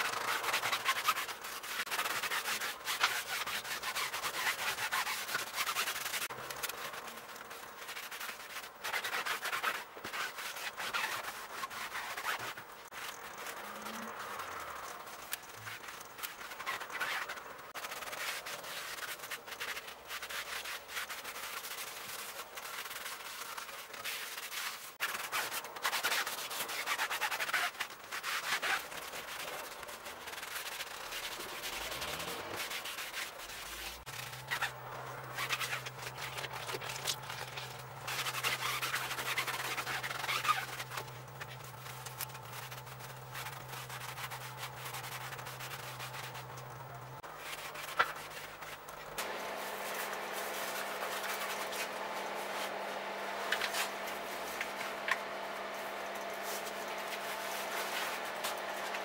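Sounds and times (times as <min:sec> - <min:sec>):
hand rubbing steel wheel rim: 0:00.0 - 0:59.0.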